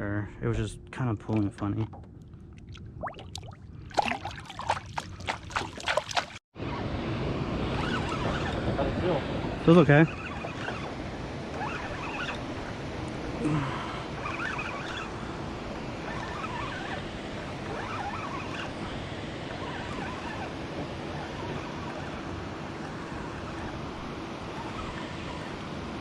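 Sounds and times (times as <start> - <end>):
water rushing past boat: 1.3 - 26.0.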